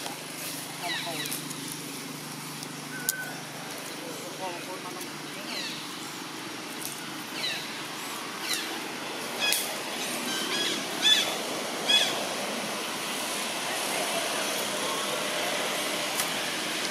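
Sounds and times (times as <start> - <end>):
outdoor background hum: 0.0 - 16.9.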